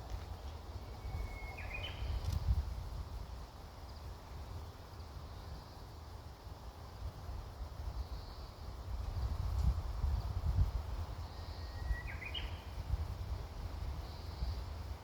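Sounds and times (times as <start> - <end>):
wind rumbling on microphone: 0.0 - 5.6, 6.3 - 15.0.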